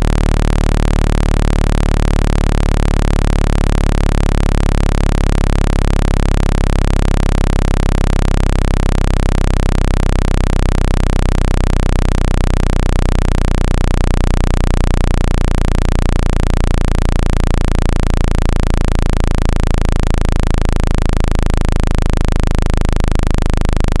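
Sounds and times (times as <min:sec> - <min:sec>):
buzzy synthetic low tone: 0:00.0 - 0:24.0.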